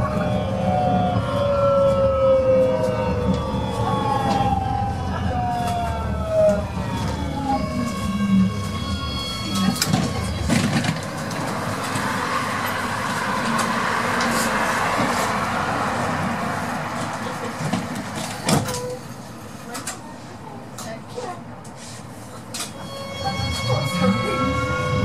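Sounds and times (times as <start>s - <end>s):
tram electronics whining: 0.0s - 19.6s, 22.5s - 25.0s.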